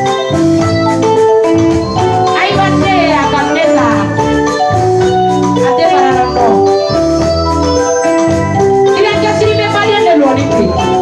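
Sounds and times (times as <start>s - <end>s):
electronic keyboard organ melody: 0.0s - 11.0s
steady bass line: 0.0s - 11.0s.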